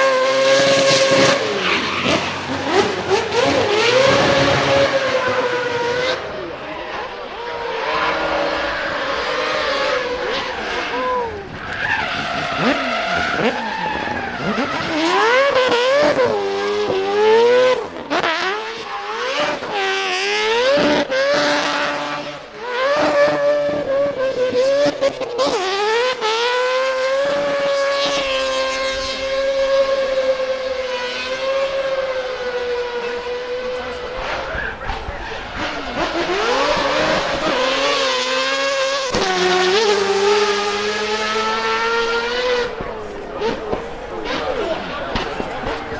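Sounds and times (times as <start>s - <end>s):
car engine revving hard: 0.0s - 45.9s.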